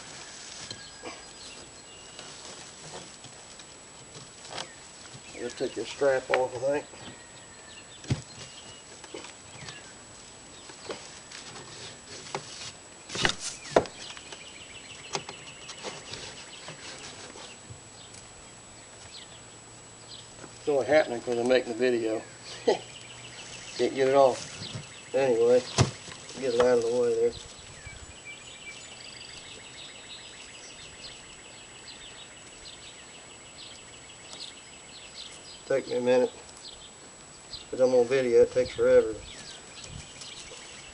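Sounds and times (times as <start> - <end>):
birds chirping: 0.0 - 40.9
low background hiss: 0.0 - 40.9.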